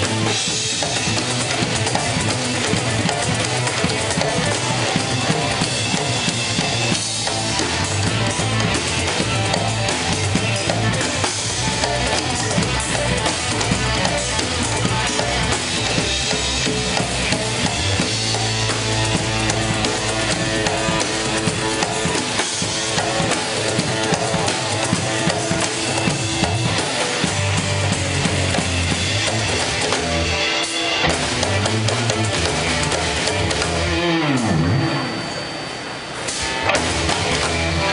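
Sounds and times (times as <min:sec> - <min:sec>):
live band playing instrumental: 0:00.0 - 0:37.9.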